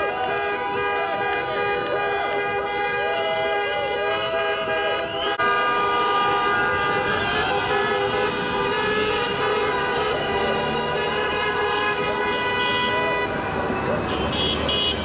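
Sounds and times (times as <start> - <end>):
car horns honking: 0.0 - 15.0.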